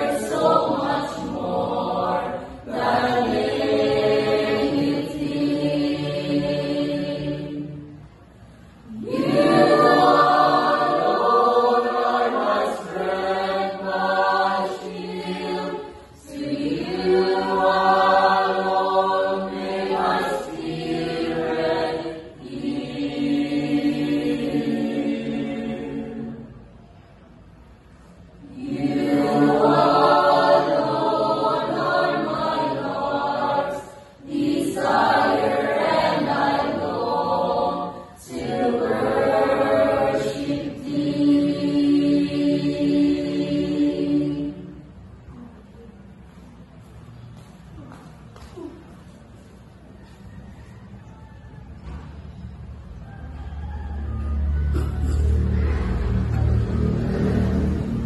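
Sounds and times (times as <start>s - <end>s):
church choir singing: 0.0s - 26.9s, 28.0s - 45.5s, 50.0s - 58.0s.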